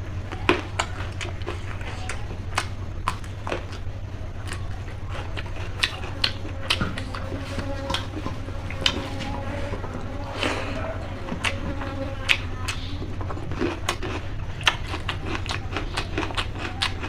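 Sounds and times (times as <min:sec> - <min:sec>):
low hum: 0:00.0 - 0:17.0
person chewing with wet smacks: 0:00.2 - 0:17.0.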